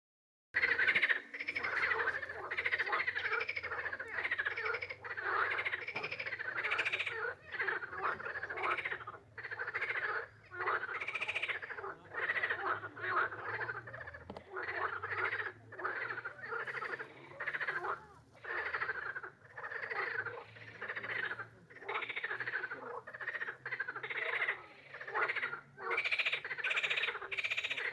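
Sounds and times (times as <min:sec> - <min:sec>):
frogs croaking: 0:00.6 - 0:27.9.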